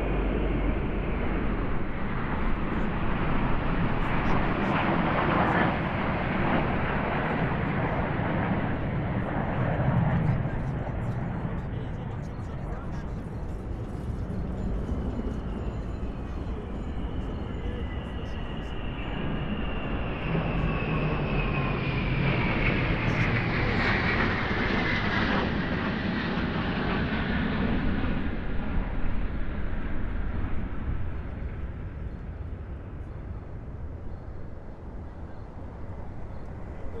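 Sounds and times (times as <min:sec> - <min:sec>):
high jet whine: 0:00.0 - 0:31.9
jet engines flying past: 0:00.0 - 0:37.0.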